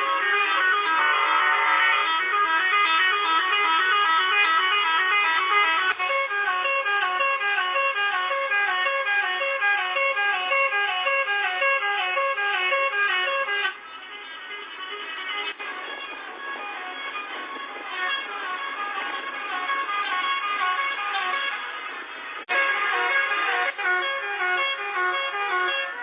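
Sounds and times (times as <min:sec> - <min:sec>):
musical air horn tune: 0:00.0 - 0:26.0.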